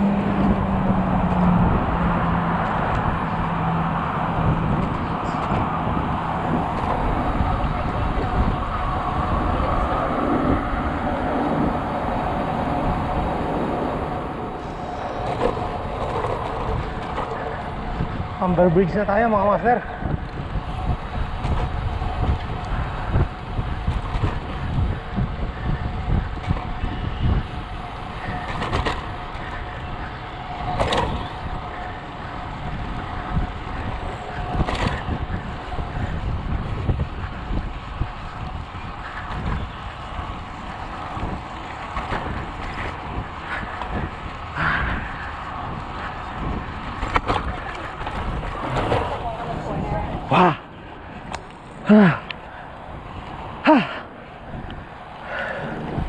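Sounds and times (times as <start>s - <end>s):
bicycle tyre noise: 0.0s - 56.0s
nearby traffic: 0.0s - 56.0s
thin steady whine: 0.0s - 56.0s
wind buffeting microphone: 0.0s - 56.0s.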